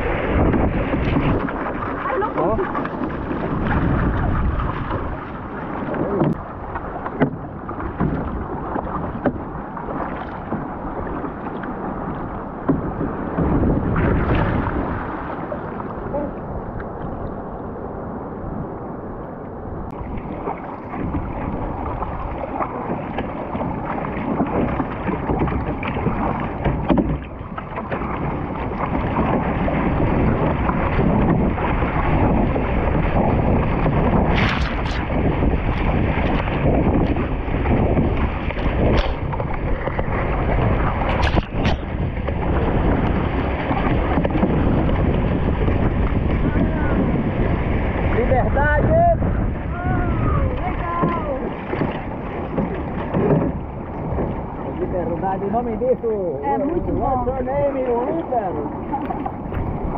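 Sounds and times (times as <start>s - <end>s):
paddle slapping water: 0.0s - 59.9s
water rushing along a boat hull: 0.0s - 59.9s
wind buffeting microphone: 0.0s - 59.9s.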